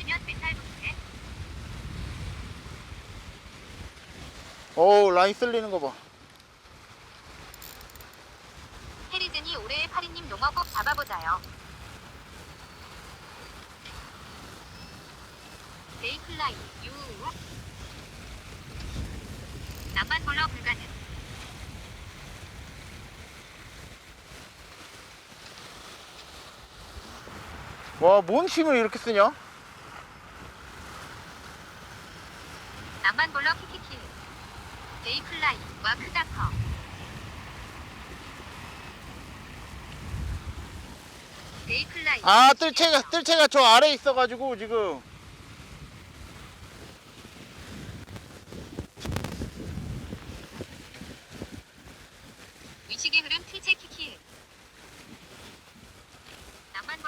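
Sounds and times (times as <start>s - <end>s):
wind on microphone: 0.0s - 4.8s, 6.7s - 28.1s, 29.7s - 43.0s, 45.0s - 57.0s
sea washing: 0.0s - 57.0s.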